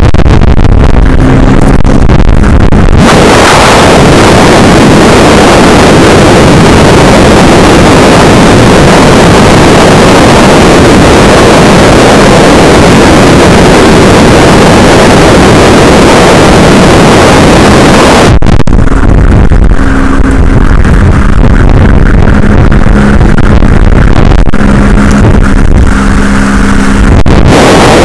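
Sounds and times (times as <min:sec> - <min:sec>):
wind and road noise in car: 0:00.0 - 0:28.0.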